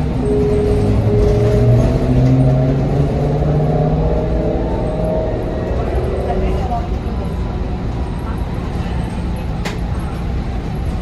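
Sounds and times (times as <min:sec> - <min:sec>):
rumble and road noise: 0:00.0 - 0:11.0
trolleybus motor whining: 0:00.0 - 0:11.0.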